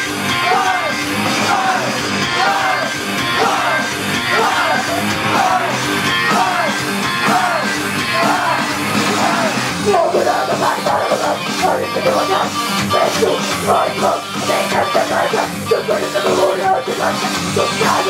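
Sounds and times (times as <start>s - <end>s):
live pop-rock band: 0.0s - 18.0s
singing and shouted vocals: 0.0s - 18.0s.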